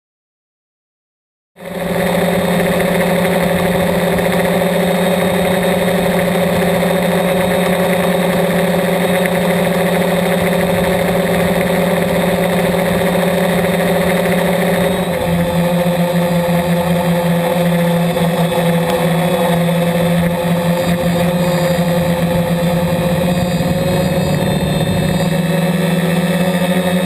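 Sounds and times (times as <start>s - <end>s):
drone motors humming: 1.6s - 27.0s.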